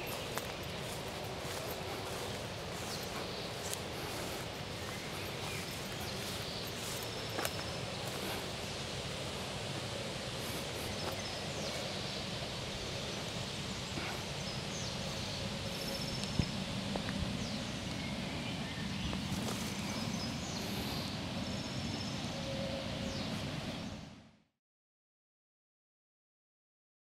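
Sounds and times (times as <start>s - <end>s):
steady rush of noise: 0.0s - 24.3s.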